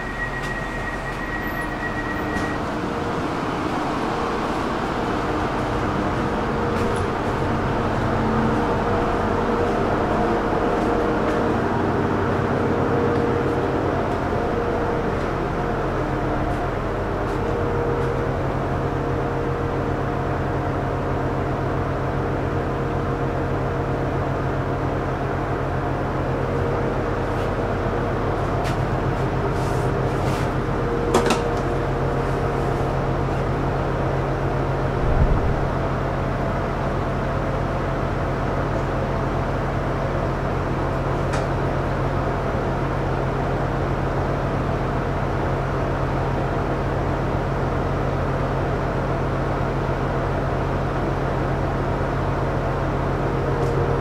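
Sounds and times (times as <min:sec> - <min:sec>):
train cabin equipment drone: 0:00.0 - 0:54.0.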